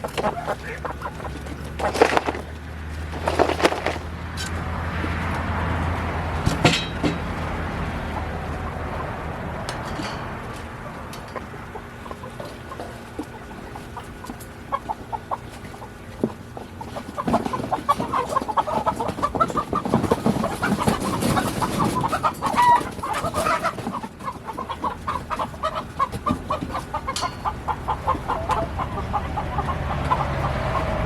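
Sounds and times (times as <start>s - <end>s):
scuffling: 0.0s - 30.2s
chickens clucking and squawking: 0.0s - 31.0s.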